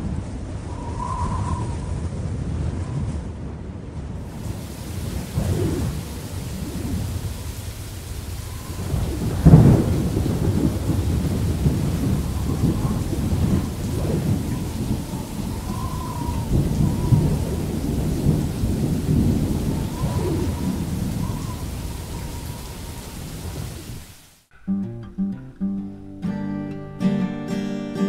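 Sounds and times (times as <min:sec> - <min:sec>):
muffled low rumbling: 0:00.0 - 0:23.0.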